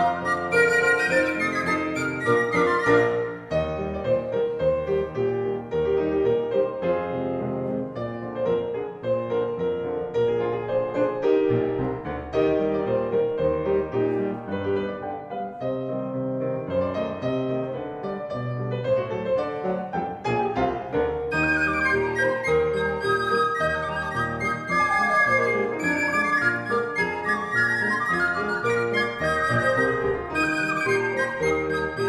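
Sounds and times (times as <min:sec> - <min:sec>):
solo piano polka: 0:00.0 - 0:32.0.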